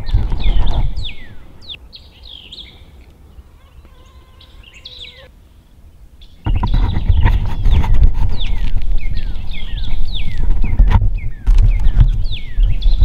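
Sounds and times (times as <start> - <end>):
songbirds whistling: 0.0 - 3.1, 3.7 - 5.3, 6.2 - 13.0.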